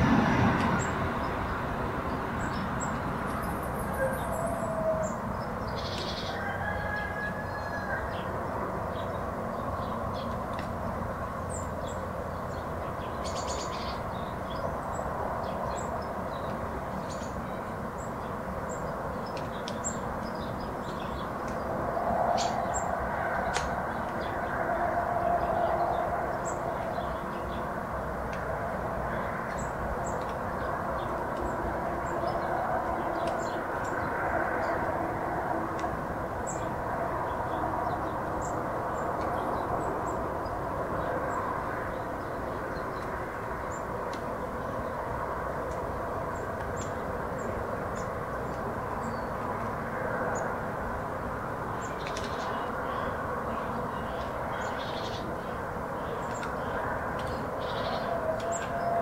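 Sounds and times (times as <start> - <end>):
birds chirping: 0.0 - 34.8, 46.3 - 59.0.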